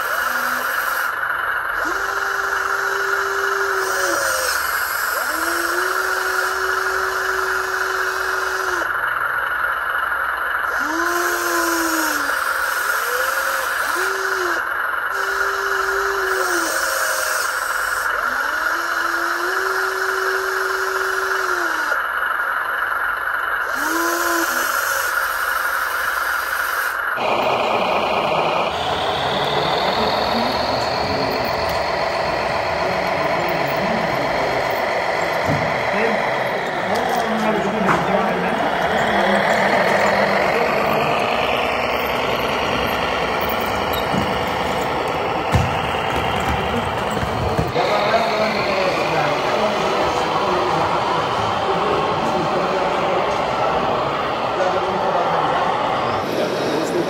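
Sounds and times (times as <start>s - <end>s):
small electric motor whining: 0.0s - 9.7s, 10.4s - 23.0s, 23.6s - 53.4s
fuller machine noise: 0.0s - 57.0s.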